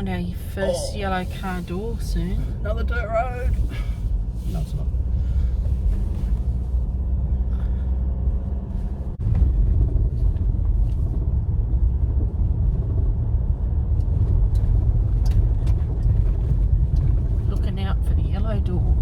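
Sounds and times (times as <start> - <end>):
road and engine rumble in car cabin: 0.0 - 19.0.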